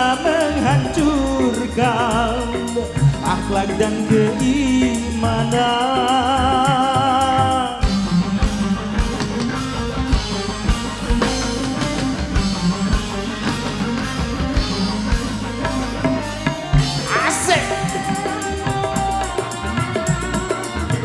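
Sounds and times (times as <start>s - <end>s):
drum kit drumming: 0.0s - 21.0s
electric guitar: 0.0s - 21.0s
keyboard: 0.0s - 21.0s.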